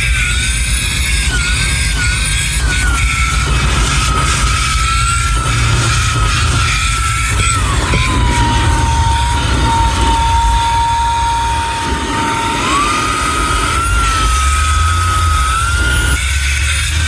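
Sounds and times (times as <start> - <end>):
handheld vacuum motor whine: 0.0 - 17.0.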